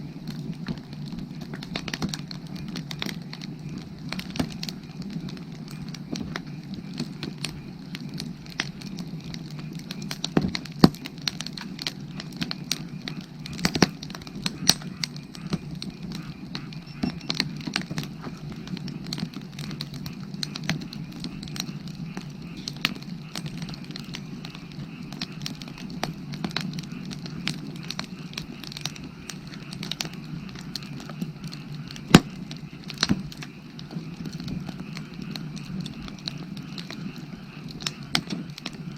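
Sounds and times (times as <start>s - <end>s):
firewood crackling and popping: 0.0s - 38.9s
low rush of fire: 0.0s - 38.9s.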